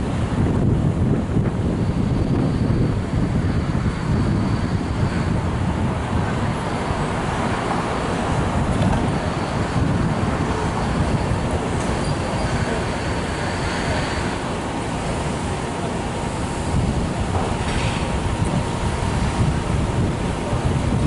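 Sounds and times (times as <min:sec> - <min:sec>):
low rumble of city traffic: 0:00.0 - 0:21.0.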